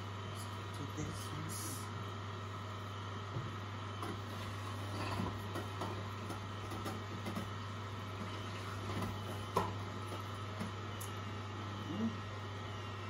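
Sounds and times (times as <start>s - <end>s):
juicer humming: 0.0s - 13.0s.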